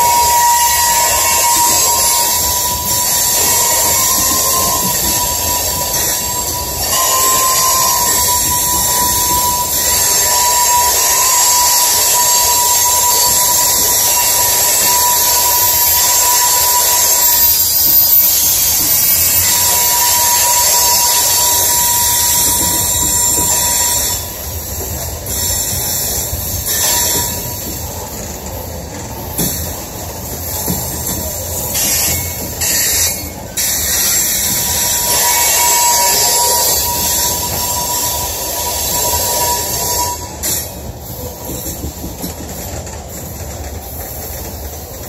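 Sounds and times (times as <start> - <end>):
rush and hiss of wheels: 0.0 - 45.0
steel wheels squealing on rail: 0.0 - 45.0.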